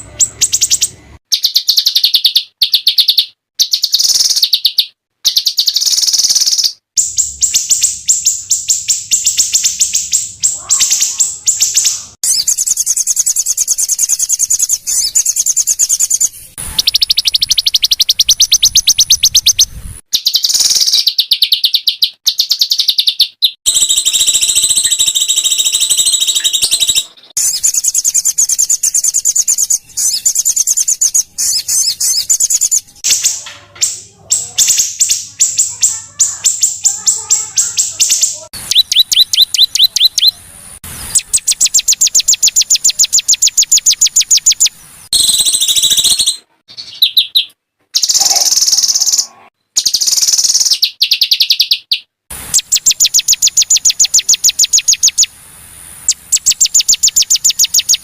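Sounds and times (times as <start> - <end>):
songbirds singing rapid phrases: 0.0 - 58.0.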